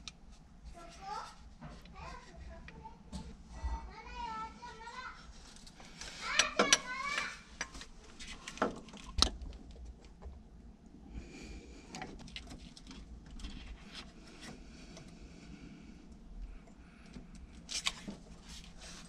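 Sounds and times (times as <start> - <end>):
faint rustling and handling: 0.2 - 10.3, 11.6 - 15.6, 16.5 - 19.0.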